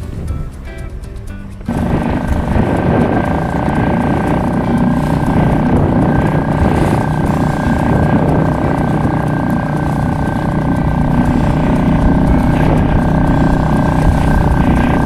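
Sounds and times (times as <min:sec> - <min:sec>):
wind buffeting microphone: 0:00.0 - 0:15.0
boat motor running: 0:01.6 - 0:15.0.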